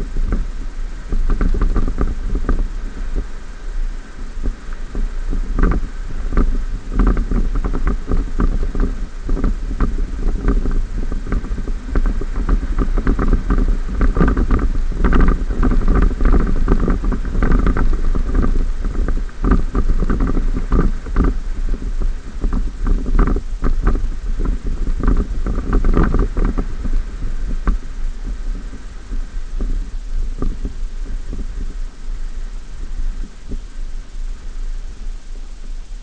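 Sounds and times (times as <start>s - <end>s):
wind on microphone: 0.0s - 36.0s.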